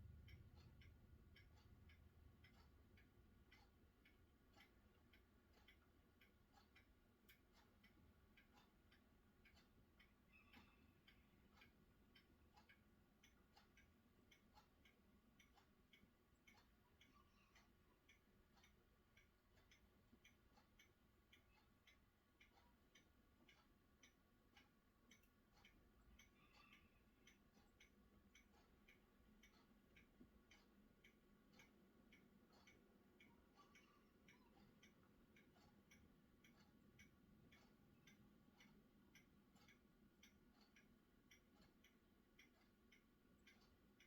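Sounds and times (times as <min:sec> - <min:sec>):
faint irregular ticking: 0:00.0 - 0:44.0.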